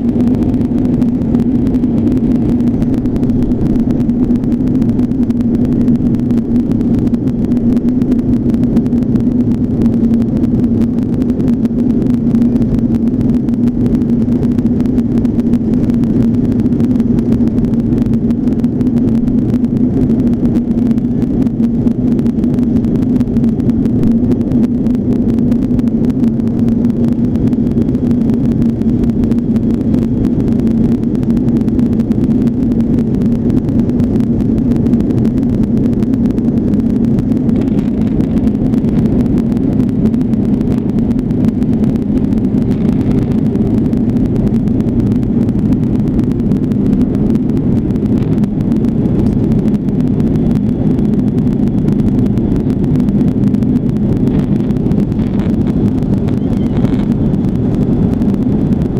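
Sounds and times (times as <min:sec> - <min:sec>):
airplane engine drone in cabin: 0:00.0 - 0:58.9.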